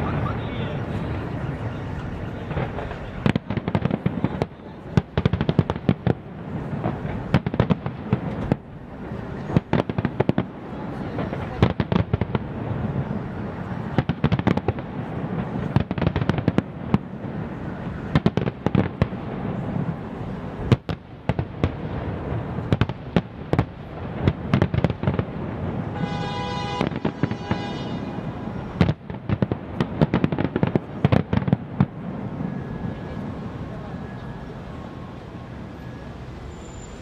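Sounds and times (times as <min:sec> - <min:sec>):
fireworks bursting and crackling: 0:00.0 - 0:37.0.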